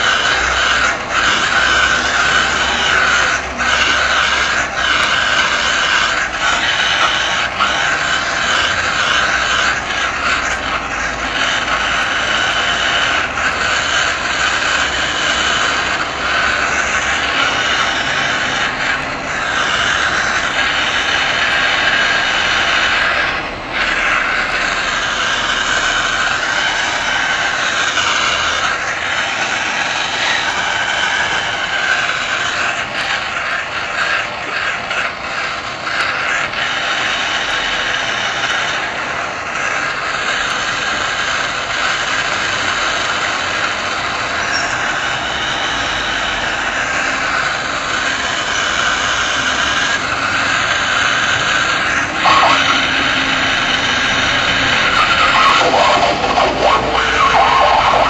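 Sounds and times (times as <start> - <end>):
propane torch flame hissing: 0.0 - 58.0.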